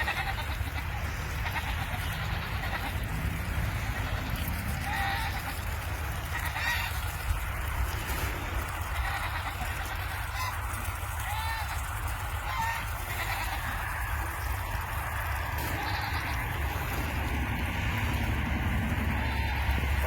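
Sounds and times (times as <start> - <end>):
geese honking: 0.0 - 3.1, 3.7 - 20.0.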